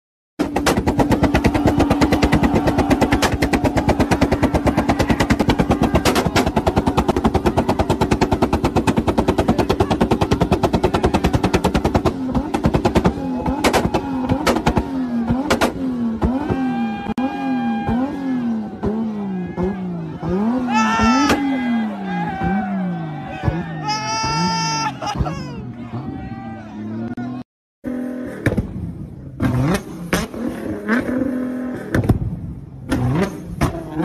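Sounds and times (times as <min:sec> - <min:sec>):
engine at high revs: 0:00.4 - 0:23.8, 0:26.8 - 0:34.0
exhaust bangs: 0:00.4 - 0:26.2, 0:27.8 - 0:34.0.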